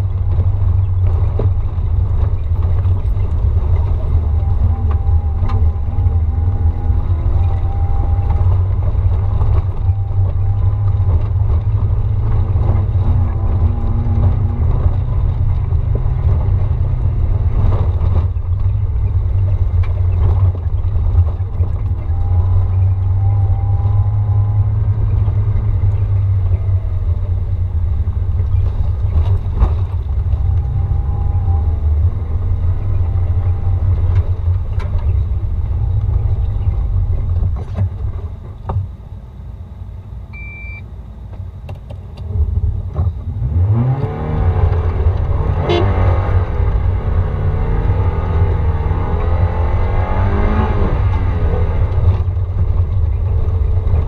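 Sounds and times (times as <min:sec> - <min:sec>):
faint whine: 0:00.0 - 0:54.0
vehicle engine and tyres rumbling: 0:00.0 - 0:54.0.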